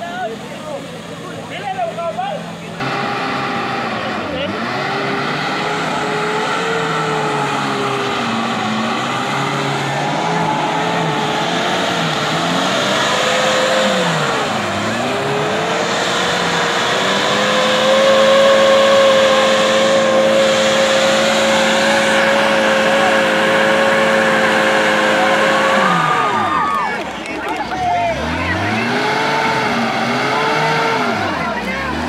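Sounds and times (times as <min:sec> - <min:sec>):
off-road engine revving: 0:00.0 - 0:32.0.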